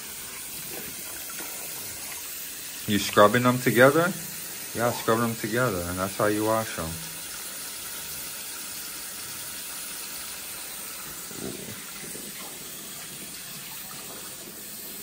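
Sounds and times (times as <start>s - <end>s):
child washing hands: 0.0s - 15.0s
faucet running into basin: 0.0s - 15.0s.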